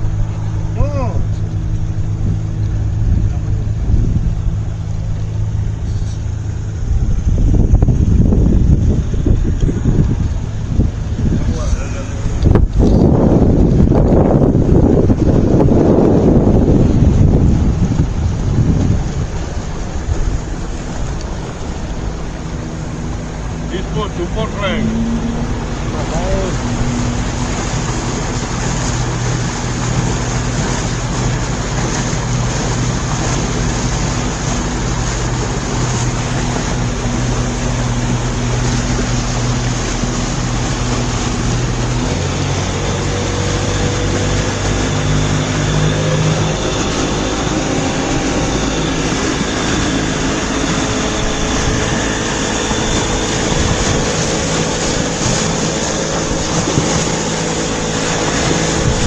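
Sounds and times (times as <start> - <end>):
boat engine running: 0.0 - 59.0
water rushing: 0.0 - 59.0
wind: 0.0 - 59.0.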